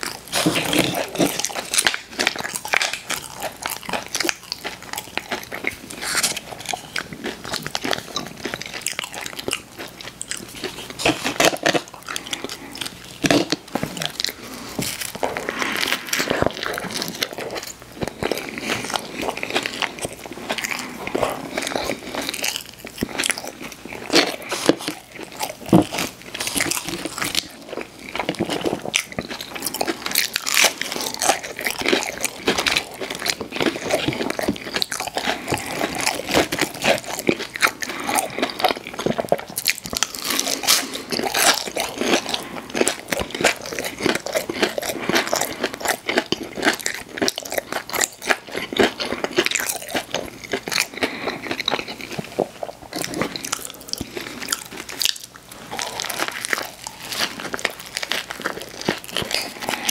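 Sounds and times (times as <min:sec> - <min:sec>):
person crunching fried food: 0:00.0 - 0:59.9.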